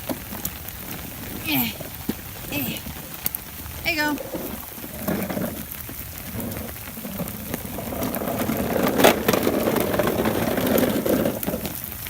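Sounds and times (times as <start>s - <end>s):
plastic toy car wheels rumbling: 0.0s - 12.0s.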